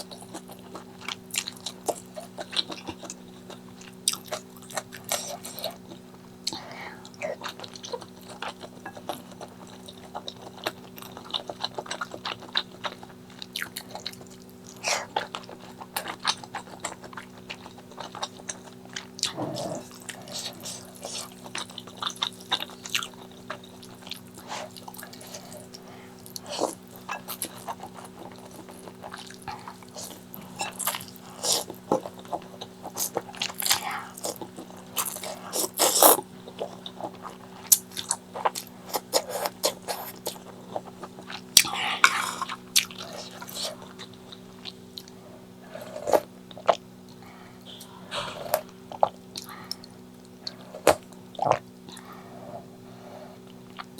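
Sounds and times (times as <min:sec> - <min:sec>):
wet chewing and lip-smacking: 0:00.0 - 0:52.2, 0:53.4 - 0:53.9
steady low hum: 0:00.0 - 0:53.9.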